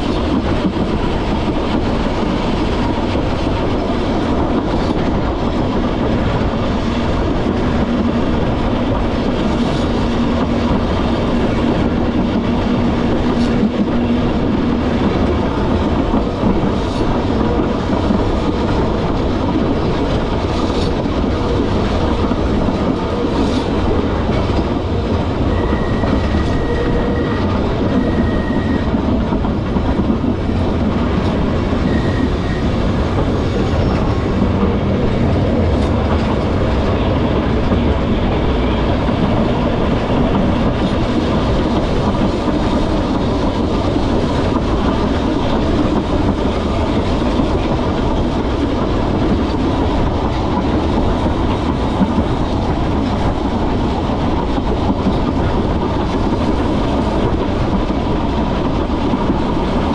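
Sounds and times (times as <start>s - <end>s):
tram wheels rumbling and rattling: 0.0s - 59.9s.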